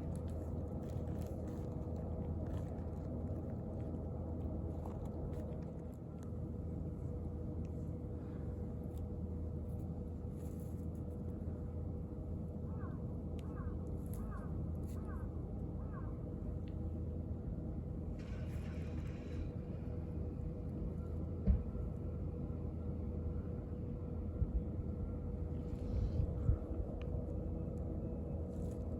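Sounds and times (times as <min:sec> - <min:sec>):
faint constant hum: 0:00.0 - 0:28.9
low outdoor rumble: 0:00.0 - 0:28.9.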